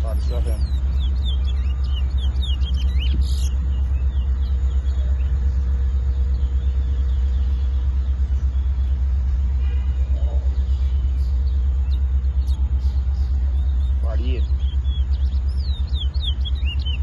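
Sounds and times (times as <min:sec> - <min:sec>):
wind buffeting microphone: 0:00.0 - 0:09.8, 0:10.5 - 0:17.0.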